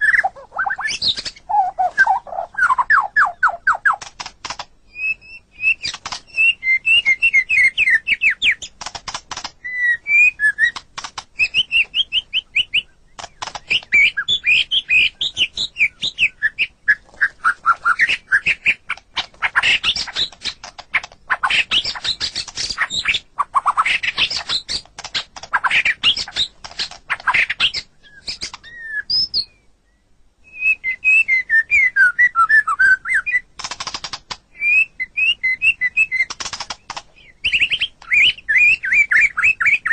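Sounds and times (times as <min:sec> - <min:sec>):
songbird whistling and trilling: 0:00.0 - 0:04.1, 0:04.9 - 0:08.7, 0:09.6 - 0:33.5, 0:34.5 - 0:39.9
bird harsh clicking notes: 0:00.0 - 0:04.8, 0:05.6 - 0:28.9, 0:33.3 - 0:34.5, 0:35.4 - 0:39.9.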